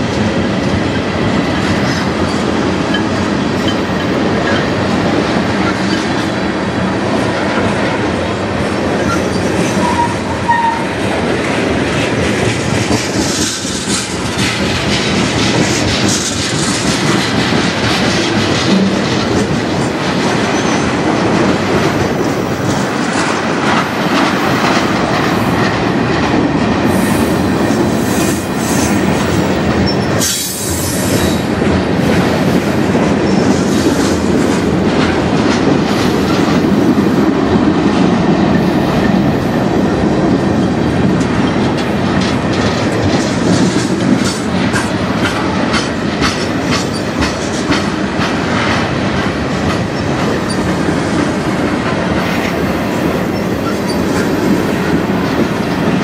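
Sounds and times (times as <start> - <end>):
train wheels clacking over rail joints: 0.0 - 56.0.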